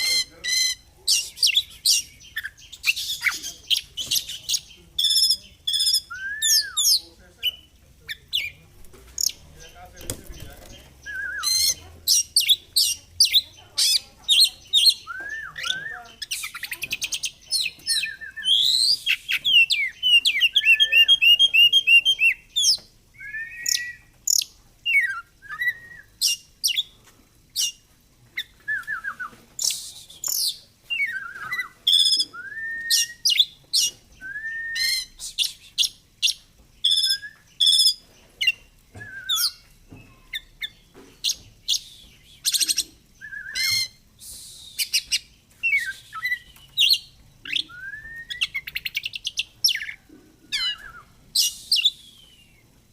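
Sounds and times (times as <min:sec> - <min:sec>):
bird singing chirps and trills: 0:00.0 - 0:44.0, 0:44.7 - 0:52.8.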